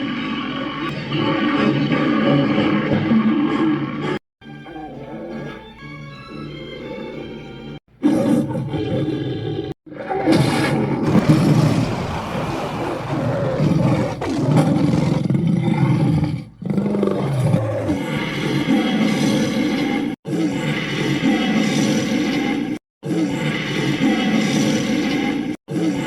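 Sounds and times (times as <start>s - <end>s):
dragon roar: 0.0s - 26.0s.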